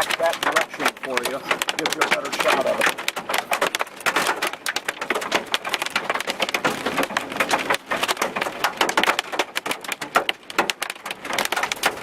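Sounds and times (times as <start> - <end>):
rain pelting a vehicle roof: 0.0 - 12.0.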